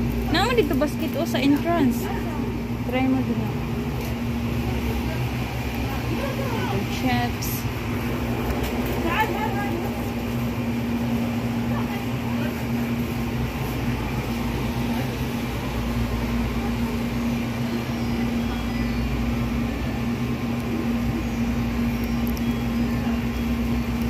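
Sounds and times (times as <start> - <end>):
cooling machinery hum: 0.0 - 24.0.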